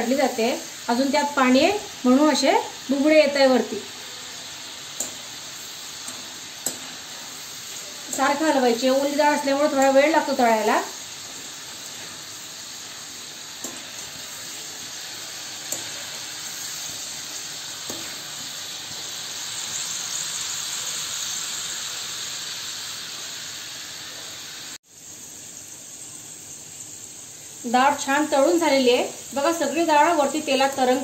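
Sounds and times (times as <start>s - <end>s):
lentils sizzling in hot oil: 0.0s - 31.0s.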